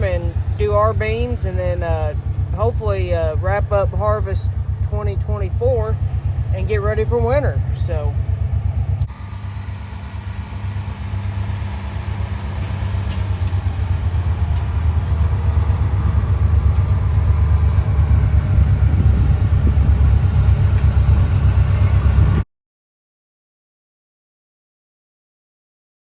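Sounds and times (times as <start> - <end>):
vehicle engine low pulsing: 0.0 - 22.5.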